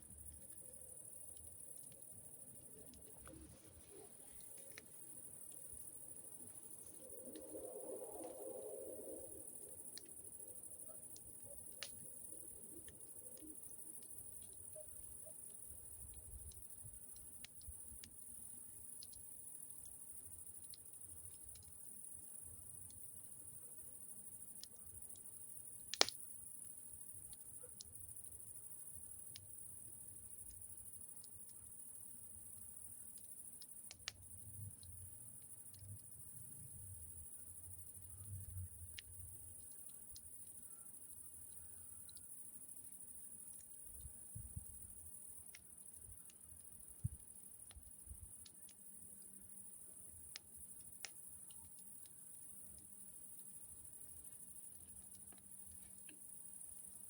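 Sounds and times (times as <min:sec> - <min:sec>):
campfire crackling and popping: 0:00.1 - 0:08.4, 0:09.2 - 0:56.2.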